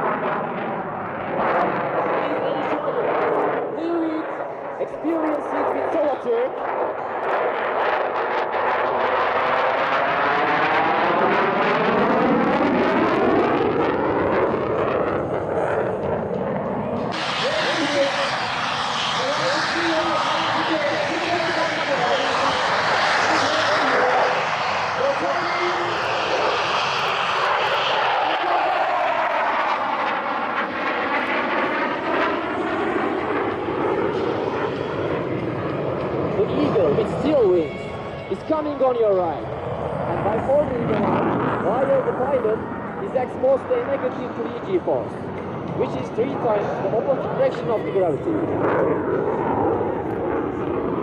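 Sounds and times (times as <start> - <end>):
jet engine roar passing: 0.0 - 51.0.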